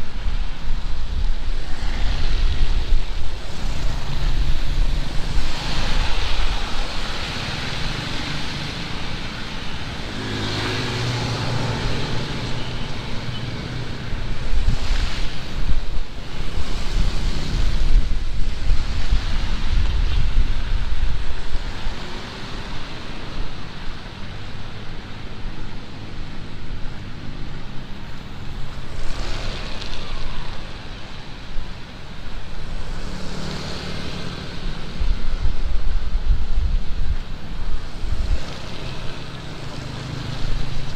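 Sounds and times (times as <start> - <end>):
heavy rain pouring: 0.0 - 40.9
wind rumbling on microphone: 0.0 - 40.9.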